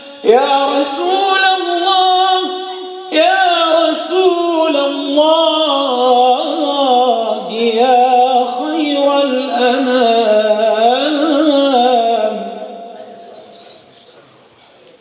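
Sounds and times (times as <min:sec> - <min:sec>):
man singing unaccompanied: 0:00.0 - 0:13.6.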